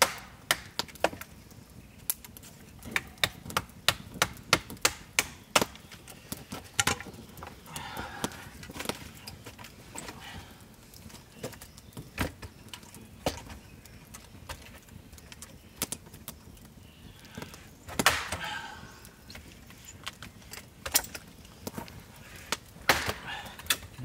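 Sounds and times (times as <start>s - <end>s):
wood cracking and splintering: 0.0s - 24.0s.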